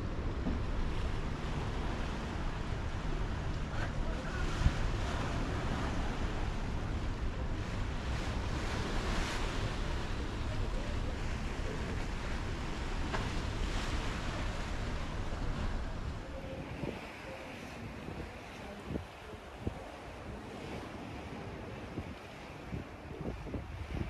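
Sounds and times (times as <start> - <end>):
sea rushing: 0.0 - 24.0
wind rumbling on microphone: 0.0 - 24.0.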